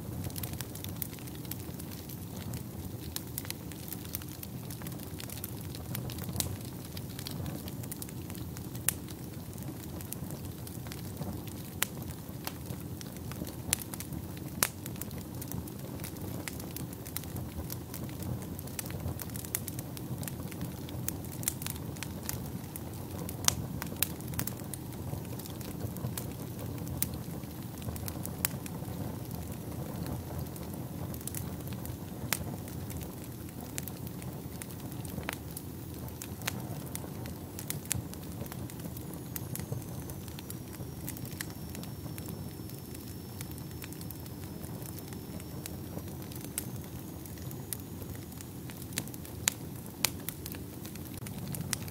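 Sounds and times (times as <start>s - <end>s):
fire crackling and popping: 0.0s - 51.9s
low rush of flames: 0.0s - 51.9s.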